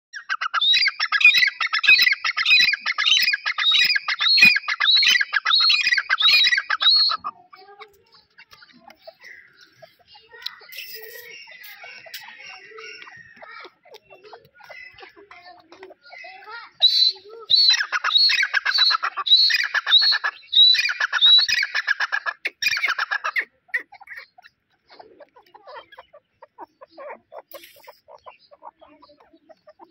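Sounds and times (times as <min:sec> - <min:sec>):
francolin calling: 0:00.1 - 0:29.9.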